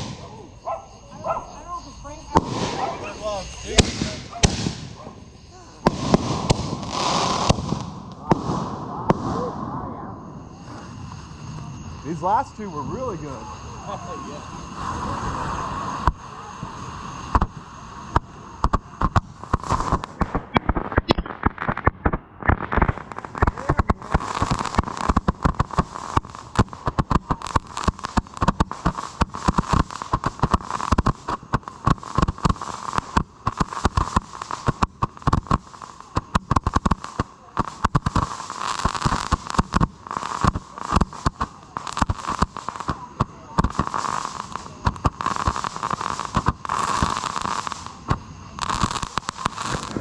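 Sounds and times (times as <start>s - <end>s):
fireworks popping and crackling: 0.0s - 50.0s.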